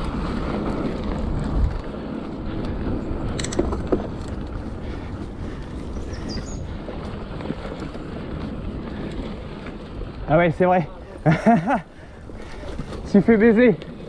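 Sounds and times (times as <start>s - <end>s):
bike tyres rumbling on dirt: 0.0s - 14.0s
wind buffeting microphone: 0.0s - 14.0s.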